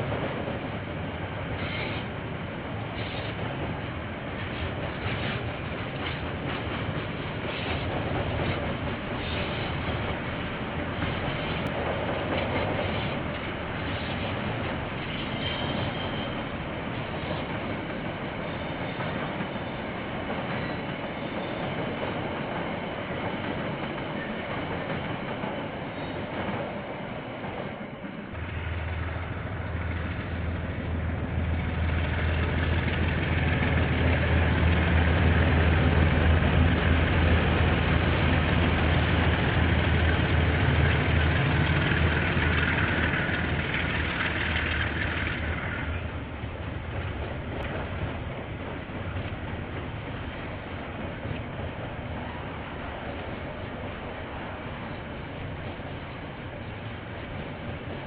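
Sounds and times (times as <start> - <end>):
diesel locomotive engine drone: 0.0 - 58.0
train rolling rattle: 0.0 - 58.0.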